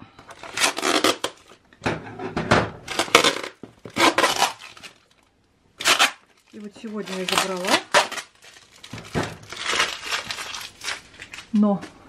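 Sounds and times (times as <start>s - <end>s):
plastic wrap crinkling: 0.3s - 1.6s, 2.9s - 11.9s.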